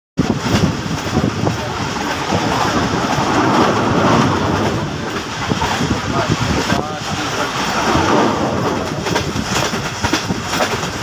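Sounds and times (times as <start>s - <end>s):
train coaches rumbling and rattling: 0.2s - 11.0s
wheels clattering on track: 0.2s - 11.0s.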